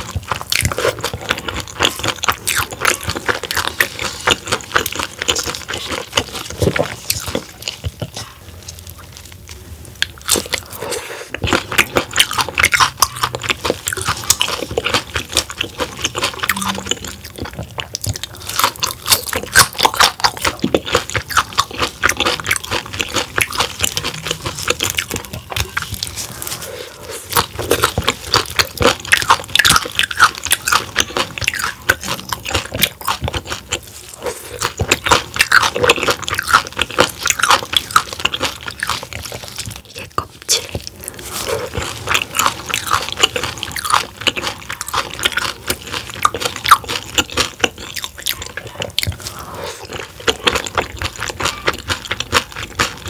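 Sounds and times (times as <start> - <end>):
crunching and chewing: 0.0 - 53.0.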